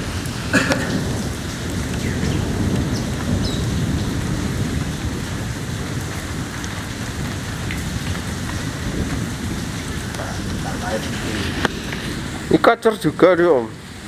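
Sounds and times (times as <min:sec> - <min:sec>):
heavy low rumble: 0:00.0 - 0:13.2
rain falling on pavement: 0:00.0 - 0:14.0.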